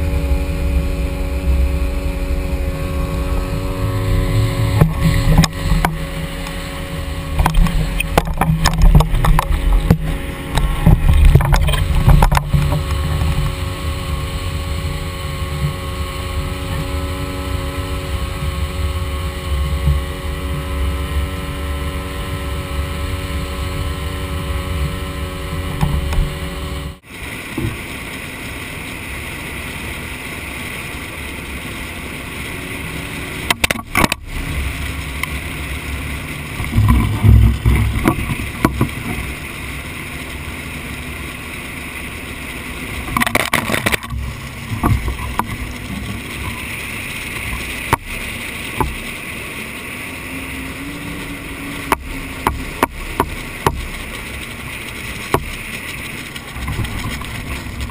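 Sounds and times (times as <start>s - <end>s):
boat motor droning: 0.0s - 57.9s
low water surge: 0.0s - 57.9s
waves lapping against boat hull: 0.0s - 57.9s.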